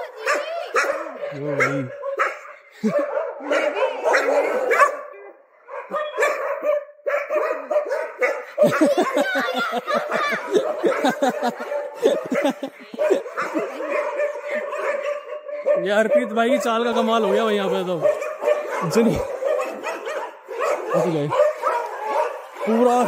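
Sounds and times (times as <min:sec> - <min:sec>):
dogs barking and yipping: 0:00.0 - 0:23.0.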